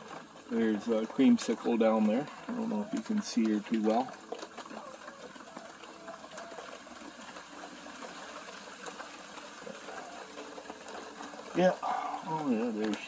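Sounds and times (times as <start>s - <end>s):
rain falling on a pond: 0.0s - 13.0s.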